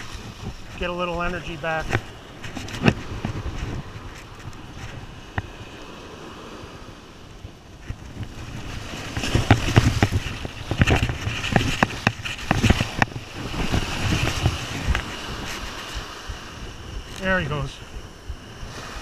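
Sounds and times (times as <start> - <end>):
surf washing and splashing: 0.0 - 19.0
wind buffeting microphone: 0.0 - 19.0.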